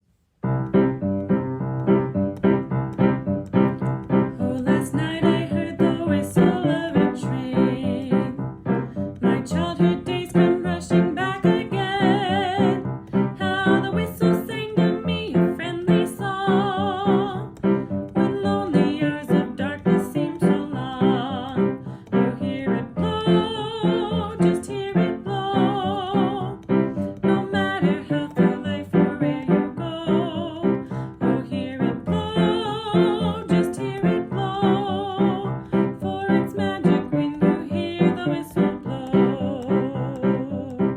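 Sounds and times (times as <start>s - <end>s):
keyboard music with vibrato melody: 0.4s - 40.9s.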